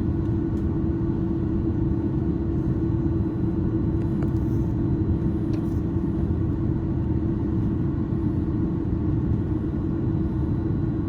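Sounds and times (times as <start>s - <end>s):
aircraft cabin engine drone: 0.0s - 11.0s
constant low hum: 0.0s - 11.0s.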